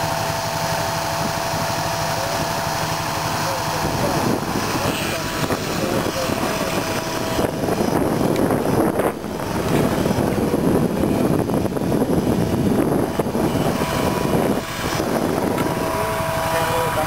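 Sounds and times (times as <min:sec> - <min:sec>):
rc helicopter rotor buzz: 0:00.0 - 0:17.0.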